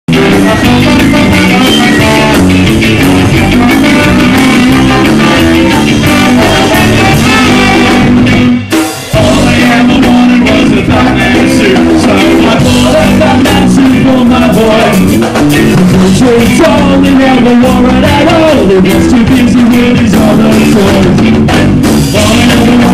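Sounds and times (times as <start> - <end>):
live band with horn section: 0.1 - 22.9.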